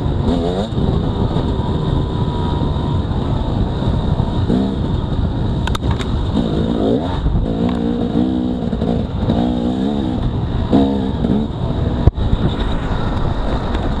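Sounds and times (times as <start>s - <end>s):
dirt bike engine revving: 0.0s - 12.4s
low rushing noise: 0.0s - 14.0s.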